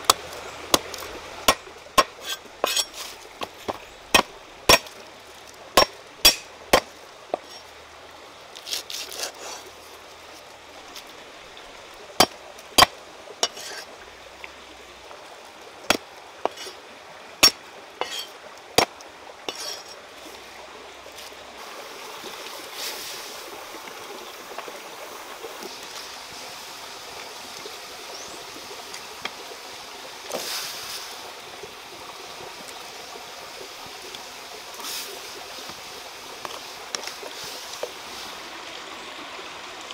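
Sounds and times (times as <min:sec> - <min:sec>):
water hissing in a wok: 0:00.0 - 0:39.9
water splashing: 0:00.0 - 0:39.9.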